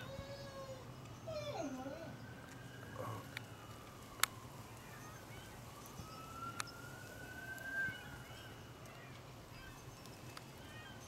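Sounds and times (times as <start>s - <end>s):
distant siren wailing: 0.0s - 11.0s.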